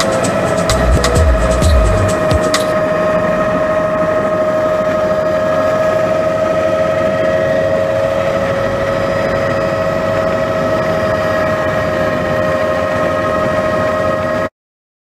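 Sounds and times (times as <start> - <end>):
helicopter turbine whine: 0.0 - 14.5
rotor and airflow noise: 0.0 - 14.5.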